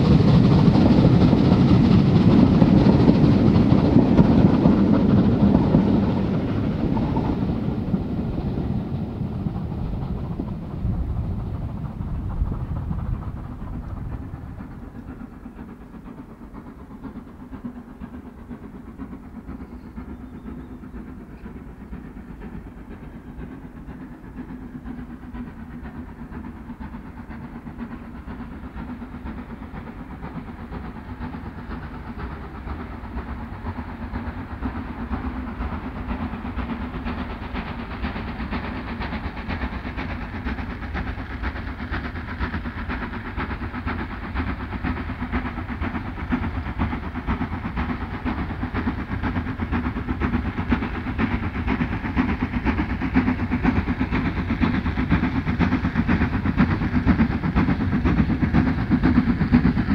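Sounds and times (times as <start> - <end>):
steam train rumbling on rails: 0.0 - 59.9.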